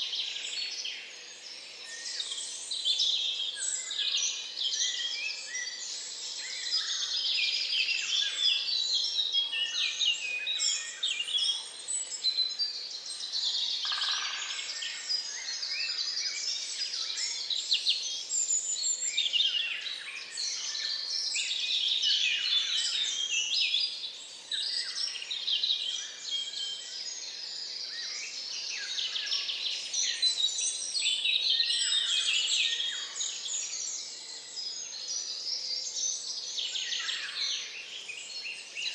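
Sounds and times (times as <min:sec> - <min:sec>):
birds singing and calling: 0:00.0 - 0:38.9.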